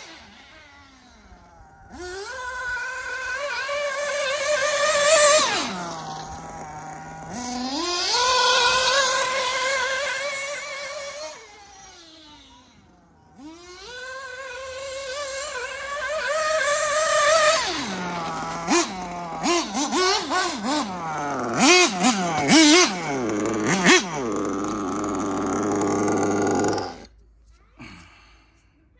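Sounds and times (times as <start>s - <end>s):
model car engine revving: 0.0s - 27.6s.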